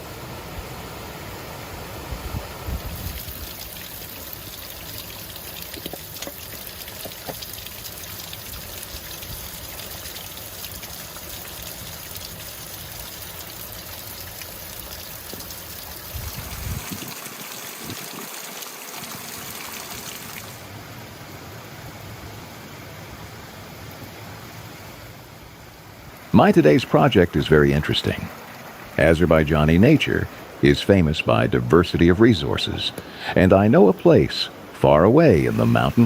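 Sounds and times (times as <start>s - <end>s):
stream water flowing: 0.0s - 36.0s.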